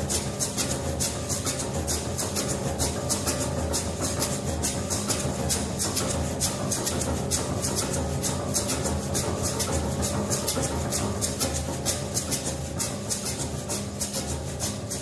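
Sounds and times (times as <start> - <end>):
light strokes on cymbals: 0.0 - 15.0.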